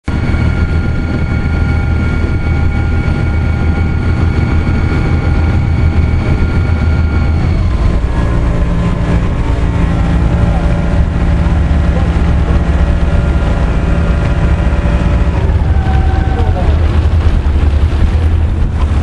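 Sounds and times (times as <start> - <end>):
deeper hum: 0.0 - 19.0
ferry engines droning: 0.0 - 19.0
high whine: 0.0 - 19.0.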